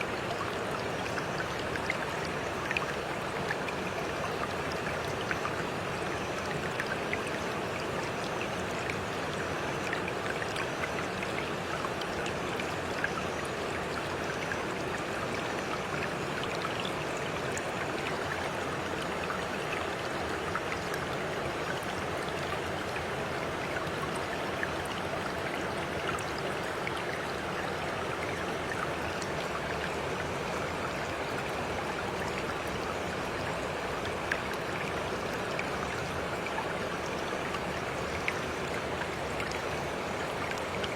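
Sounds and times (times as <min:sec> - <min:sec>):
stream of running water: 0:00.0 - 0:40.9.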